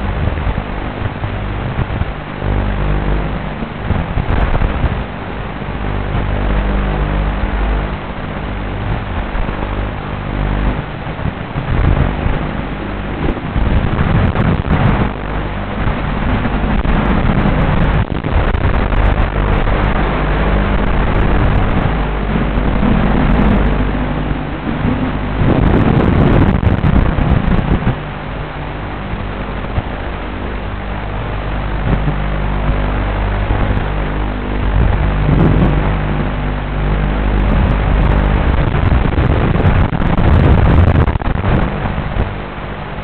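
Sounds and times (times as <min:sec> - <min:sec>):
rushing air: 0:00.0 - 0:43.0.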